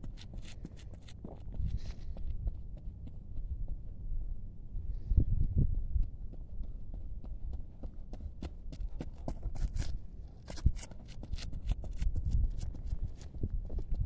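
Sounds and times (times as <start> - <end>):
running footsteps: 0.0 - 4.0, 6.0 - 14.0.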